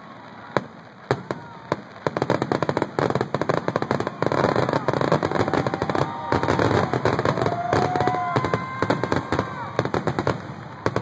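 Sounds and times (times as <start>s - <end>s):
rapid sharp pops and crackles: 0.4s - 11.0s.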